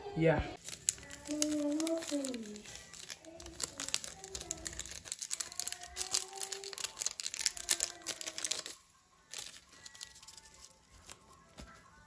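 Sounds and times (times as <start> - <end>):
plastic sachet crinkling: 0.6 - 12.0.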